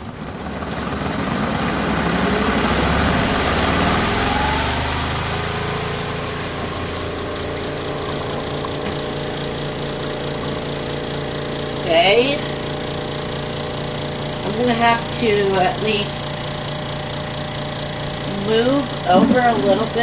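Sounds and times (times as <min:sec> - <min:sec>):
spin dryer motor whining: 0:00.0 - 0:20.0.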